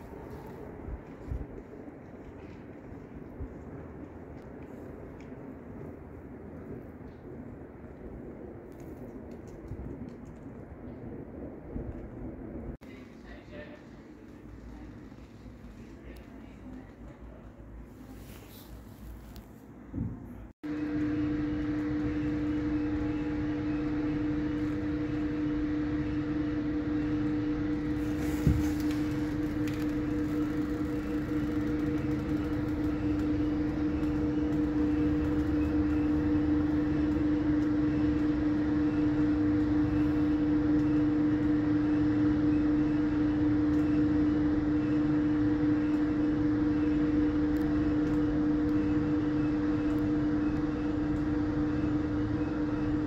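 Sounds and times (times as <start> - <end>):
cable car machine hum: 0.0 - 53.0.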